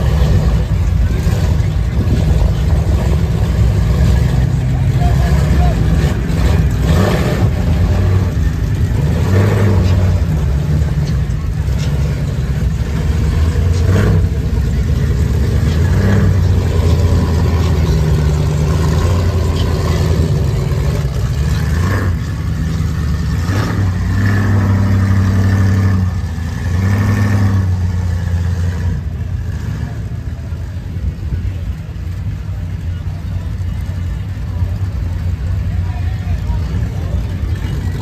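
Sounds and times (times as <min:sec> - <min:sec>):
diesel truck engine revving: 0:00.0 - 0:38.0.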